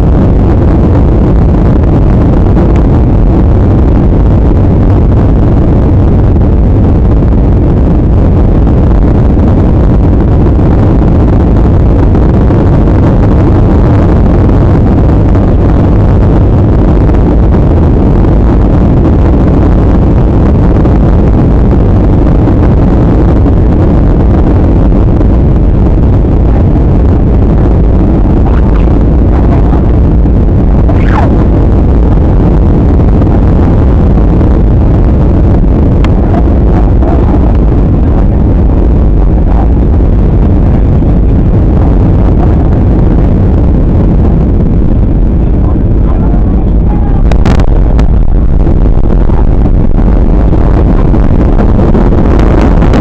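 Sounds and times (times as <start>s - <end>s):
jet airliner cabin noise: 0.0s - 53.0s.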